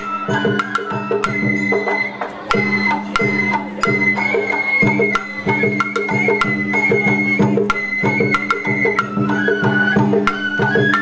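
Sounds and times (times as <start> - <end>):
bamboo flute long high notes: 0.0 - 11.0
drum beats: 0.0 - 11.0.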